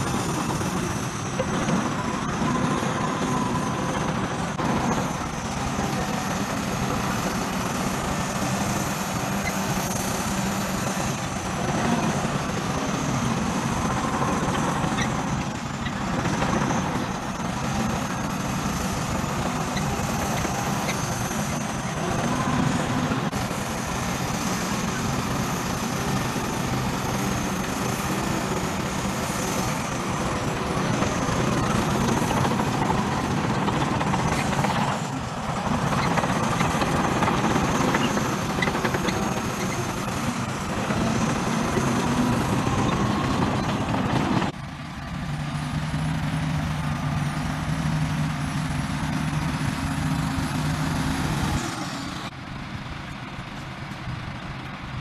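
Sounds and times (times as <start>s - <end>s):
bulldozer diesel engine under load: 0.0s - 55.0s
steady engine drone: 0.0s - 55.0s.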